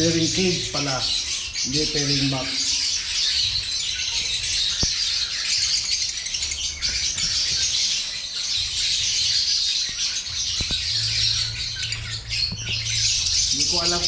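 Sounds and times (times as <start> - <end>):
lovebirds chirping: 0.0 - 14.0.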